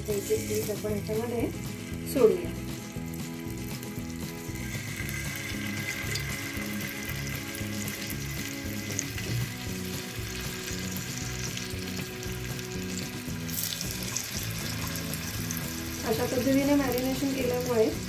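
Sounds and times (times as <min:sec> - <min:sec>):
food sizzling in hot oil: 0:00.0 - 0:18.0
soft background music: 0:00.0 - 0:18.0.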